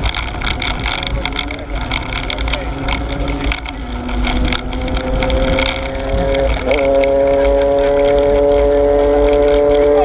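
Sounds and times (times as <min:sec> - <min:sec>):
low wind rumble: 0:00.0 - 0:10.0
vehicle engine drone: 0:00.0 - 0:10.0.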